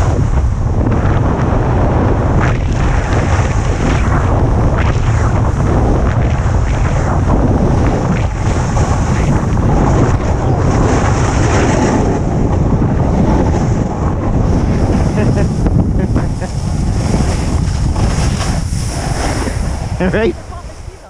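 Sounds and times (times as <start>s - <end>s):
snowboard scraping over snow: 0.0s - 21.0s
wind buffeting microphone: 0.0s - 21.0s.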